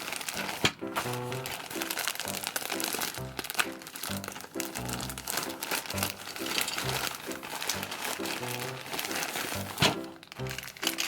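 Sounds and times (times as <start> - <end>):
bouncy background music: 0.0 - 11.0
plastic bags crinkling: 0.0 - 11.0.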